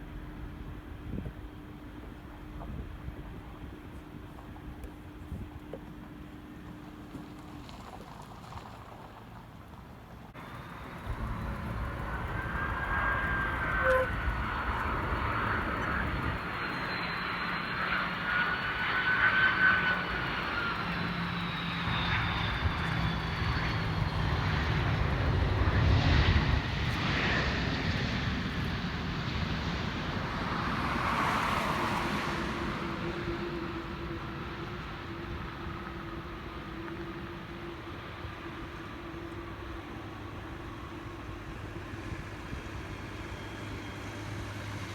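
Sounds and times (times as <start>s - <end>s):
jet engines rumbling: 0.0s - 9.0s, 10.1s - 44.9s
high engine whine: 0.0s - 9.3s, 10.1s - 44.9s.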